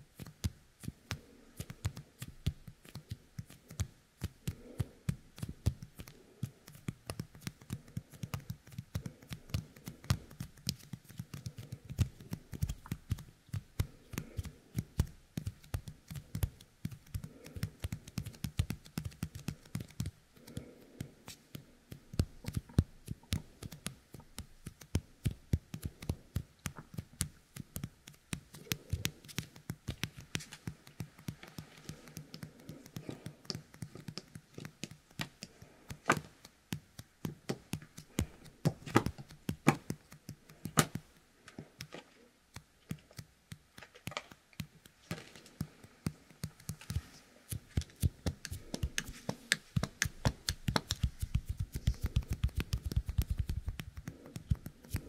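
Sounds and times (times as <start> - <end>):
sticky fingers clicking and crackling: 0.0 - 55.0.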